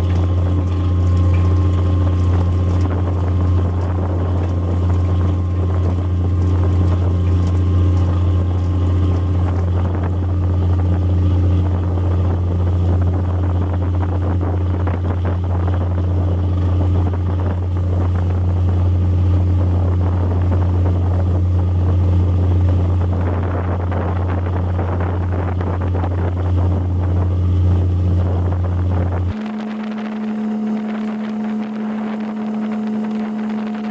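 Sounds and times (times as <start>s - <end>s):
boat engine humming: 0.0s - 33.9s.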